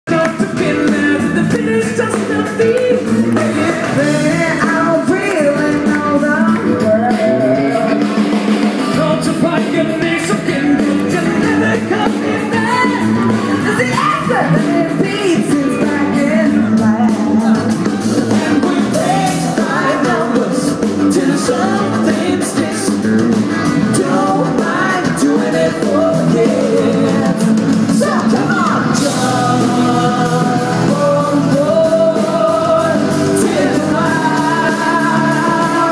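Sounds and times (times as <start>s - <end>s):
person singing: 0.0s - 35.9s
live band playing: 0.1s - 35.9s.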